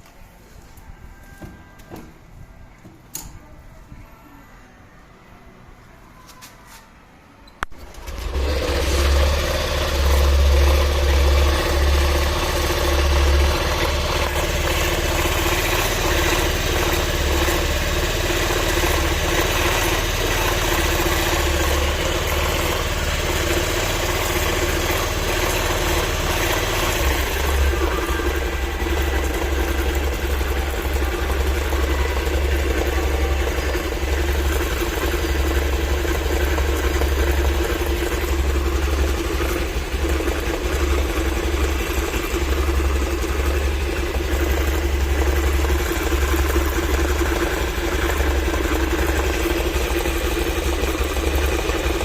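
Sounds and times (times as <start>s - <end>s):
abnormal clutch noise: 7.7s - 52.0s
scooter engine idling: 7.7s - 52.0s.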